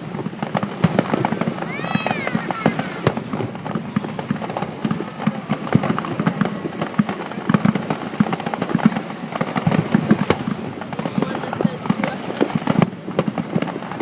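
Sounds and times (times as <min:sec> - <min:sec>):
fireworks booming and crackling: 0:00.0 - 0:14.0.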